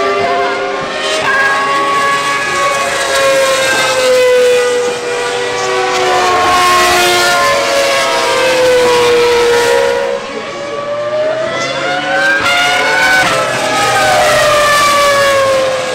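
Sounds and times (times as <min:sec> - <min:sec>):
racing car engine at high revs: 0:00.0 - 0:15.9.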